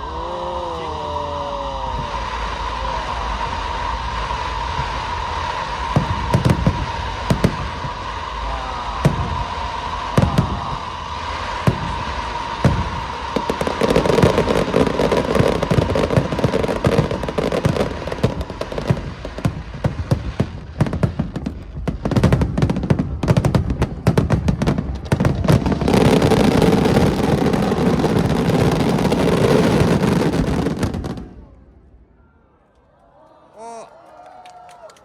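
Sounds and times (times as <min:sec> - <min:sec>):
firework bangs: 0:00.0 - 0:32.1
fireworks crackling barrage: 0:00.0 - 0:32.1.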